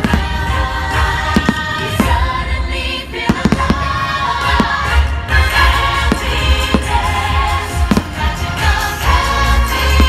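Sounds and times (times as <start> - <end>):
loud soundtrack music: 0.0 - 10.0.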